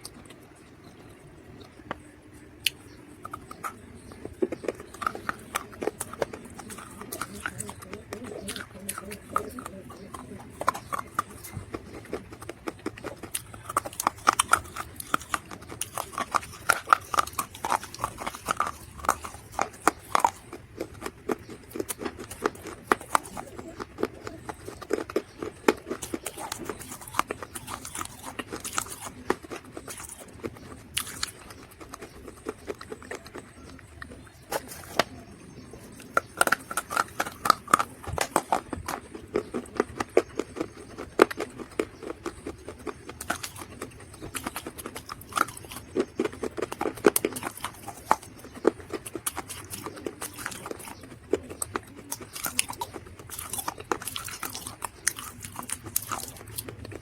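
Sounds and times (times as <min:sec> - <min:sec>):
dried mud crunching: 0:00.0 - 0:57.0.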